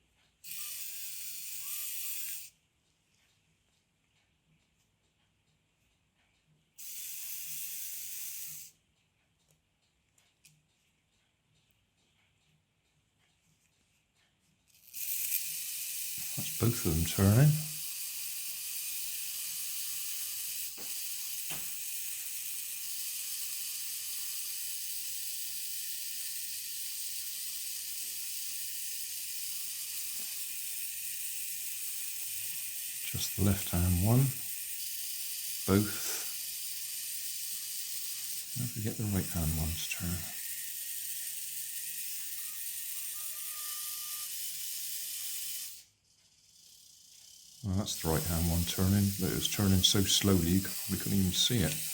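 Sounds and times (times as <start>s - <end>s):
toy gear motors whirring: 0.3s - 2.6s, 6.7s - 8.8s, 14.2s - 51.9s.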